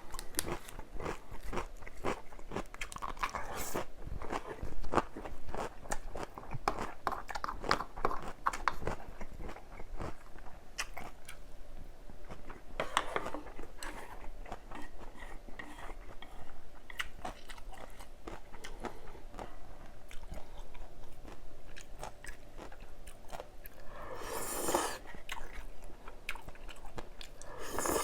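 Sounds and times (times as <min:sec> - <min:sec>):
person chewing crunchy food: 0:00.0 - 0:11.4, 0:12.2 - 0:28.0.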